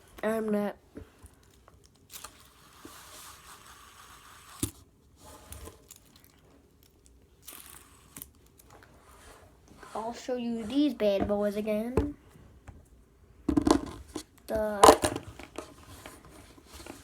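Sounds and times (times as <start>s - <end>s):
rustling and scraping handling noise: 0.0s - 12.9s, 13.5s - 17.0s.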